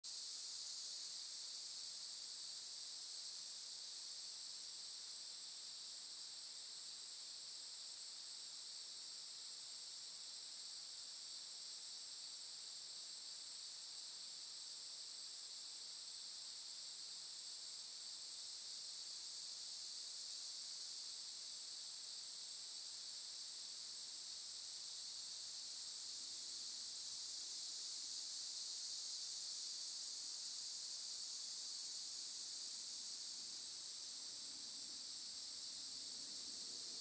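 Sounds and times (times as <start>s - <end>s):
high-pitched insect chorus: 0.1s - 37.0s.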